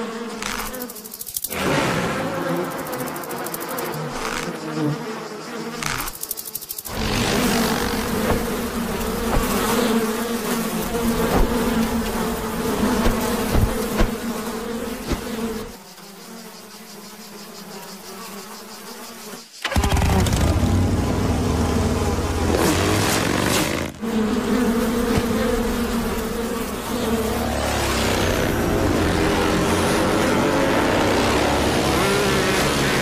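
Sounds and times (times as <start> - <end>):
insect wings buzzing: 0.0 - 33.0.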